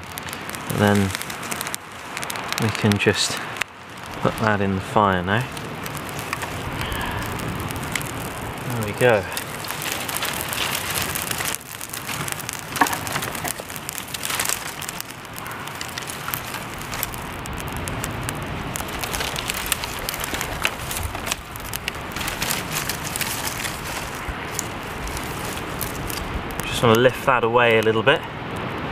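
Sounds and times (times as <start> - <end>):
dry twigs rustling and snapping: 0.0 - 28.7
fire crackling and popping: 0.0 - 28.9.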